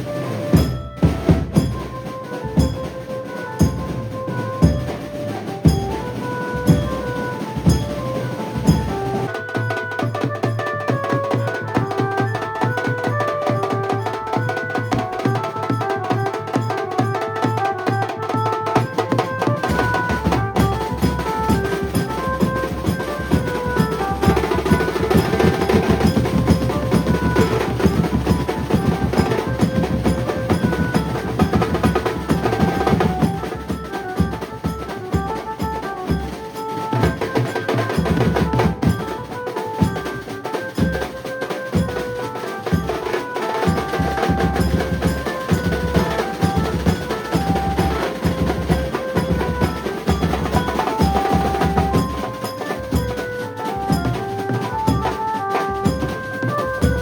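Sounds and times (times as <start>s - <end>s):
driving drum strokes: 0.0s - 57.0s
quick melody on lead instrument: 0.0s - 57.0s.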